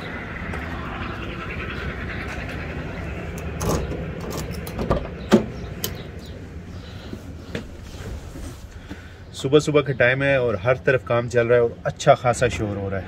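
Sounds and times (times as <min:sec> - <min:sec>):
outdoor work noise: 0:00.0 - 0:13.0.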